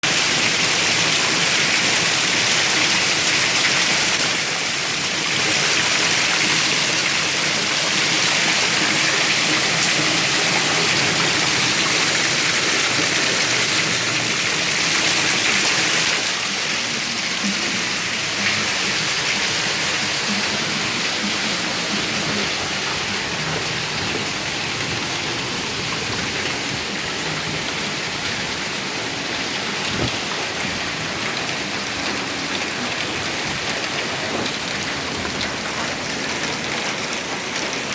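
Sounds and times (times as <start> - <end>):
rain falling: 0.0 - 37.9.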